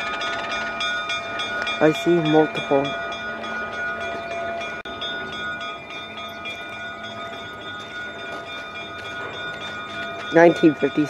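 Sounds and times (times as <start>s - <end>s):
diesel locomotive running: 0.0s - 11.0s.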